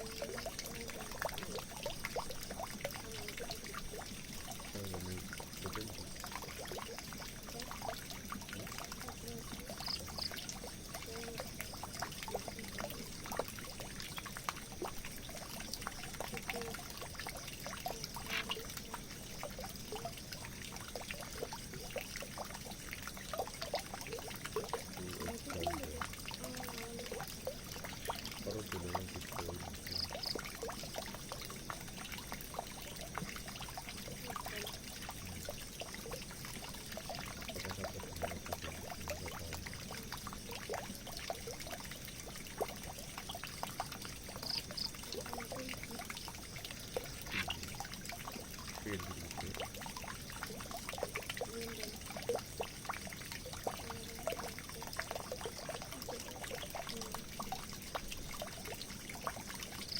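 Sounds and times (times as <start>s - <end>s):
water dripping and splashing: 0.0s - 59.9s
water pouring into a drain: 0.0s - 59.9s.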